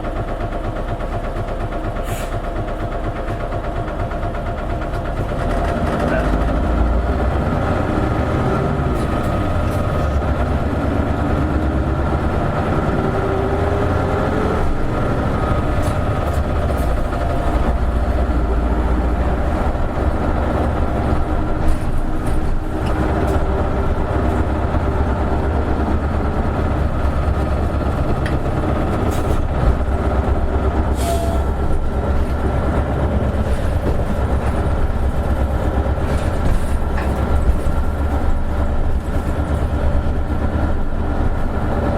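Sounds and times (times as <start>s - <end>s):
diesel bus engine droning: 0.0s - 41.9s
bus body clicks and rattles: 0.2s - 6.6s, 8.9s - 41.9s.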